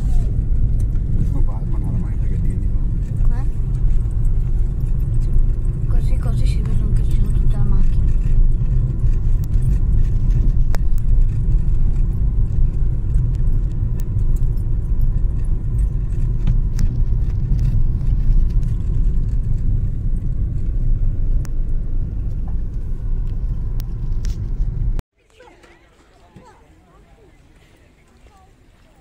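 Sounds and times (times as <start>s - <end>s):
car interior rumble: 0.0s - 25.5s.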